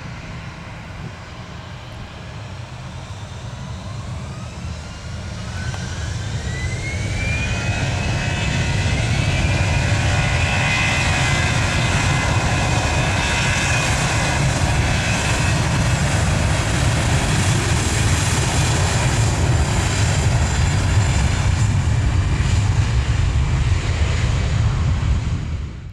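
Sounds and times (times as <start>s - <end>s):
jet engines whining: 0.0s - 25.9s
loud steady jet noise: 0.0s - 25.9s.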